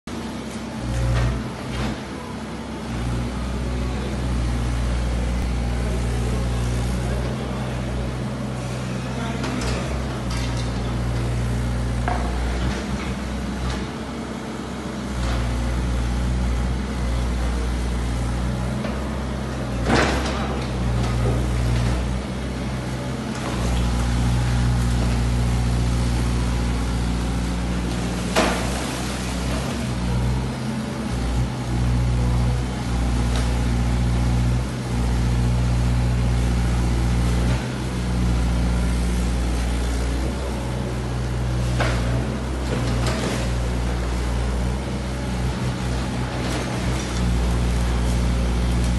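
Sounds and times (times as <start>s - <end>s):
excavator diesel engine running: 0.1s - 48.9s.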